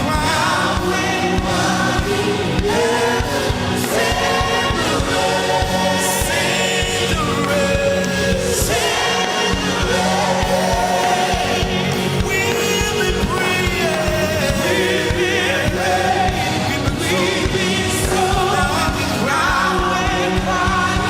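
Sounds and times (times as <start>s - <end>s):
band playing: 0.0s - 21.0s
choir singing: 0.0s - 21.0s
drum beat: 0.0s - 21.0s
sustained bass: 0.0s - 21.0s.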